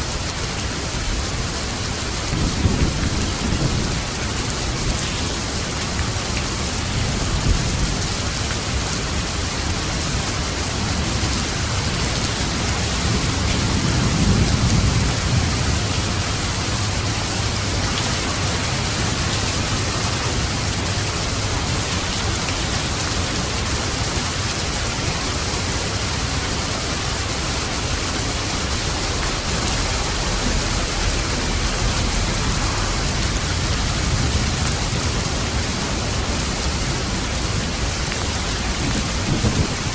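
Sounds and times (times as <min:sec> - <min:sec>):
dense rainfall: 0:00.0 - 0:39.9
low rumble of thunder: 0:00.1 - 0:24.3, 0:24.9 - 0:39.9.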